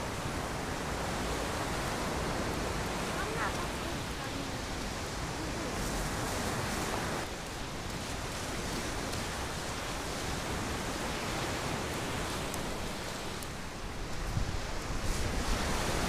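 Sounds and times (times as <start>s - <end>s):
surf washing onto pebble beach: 0.0s - 16.0s.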